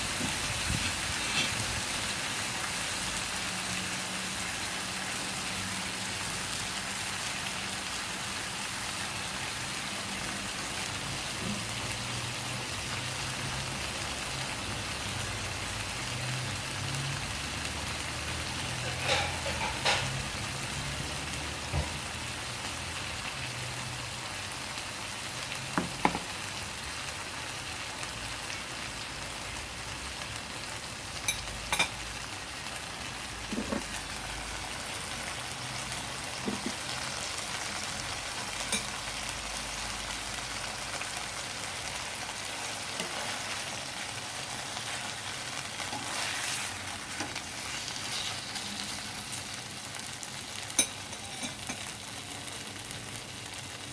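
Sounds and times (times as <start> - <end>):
chicken sizzling in oil: 0.0 - 53.9.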